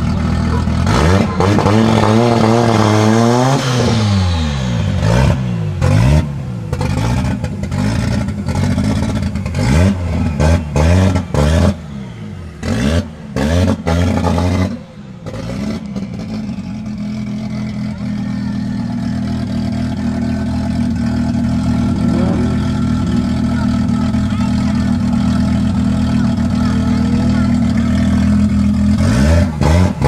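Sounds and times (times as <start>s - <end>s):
engine idling: 0.0s - 2.6s, 3.6s - 30.0s
car engine revving: 0.0s - 30.0s.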